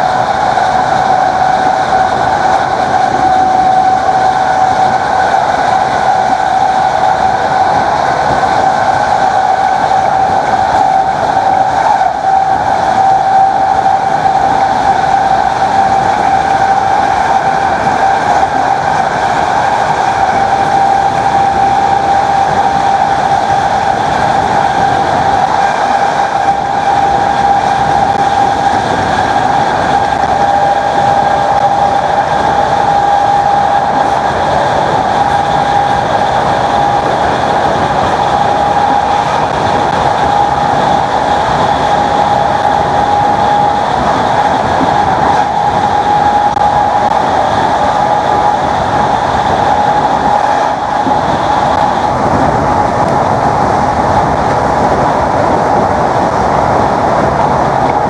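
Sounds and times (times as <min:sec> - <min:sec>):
electric train motor whine: 0:00.0 - 0:58.0
train rumble and track noise: 0:00.0 - 0:58.0.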